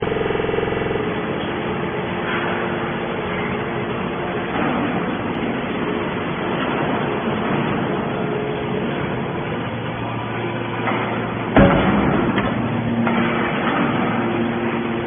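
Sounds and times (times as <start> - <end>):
can baler machine running: 0.0 - 15.0.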